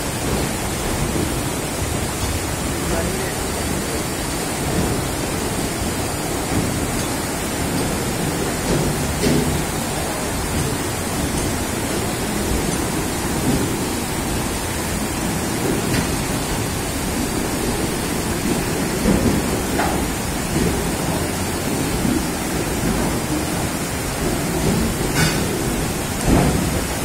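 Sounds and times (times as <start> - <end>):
train low rumble: 0.0 - 27.0
water rushing and sloshing: 0.0 - 27.0.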